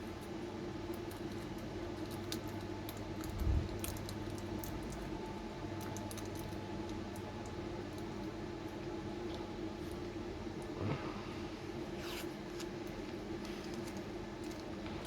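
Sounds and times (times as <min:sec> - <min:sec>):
steady background hum: 0:00.0 - 0:15.0
tape and wires crinkling: 0:00.1 - 0:10.7, 0:12.0 - 0:15.0.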